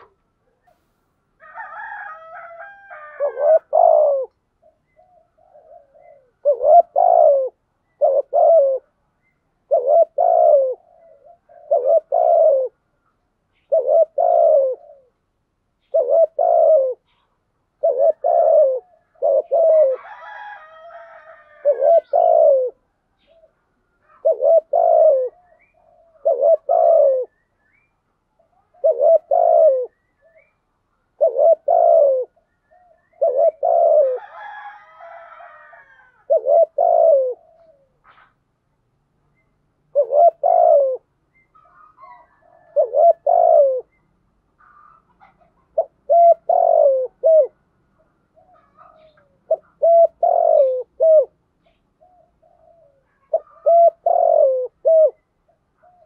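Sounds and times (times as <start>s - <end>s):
dove cooing: 0.0s - 0.7s, 1.4s - 15.2s, 15.8s - 38.4s, 39.9s - 44.0s, 44.6s - 56.0s.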